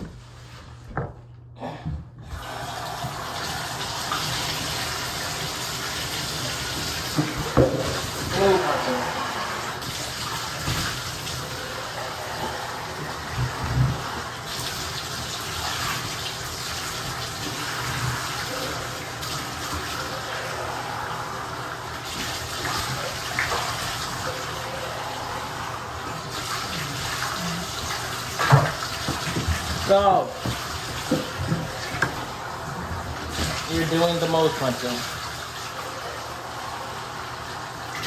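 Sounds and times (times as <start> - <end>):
water splashing in a bathtub: 2.2 - 38.0.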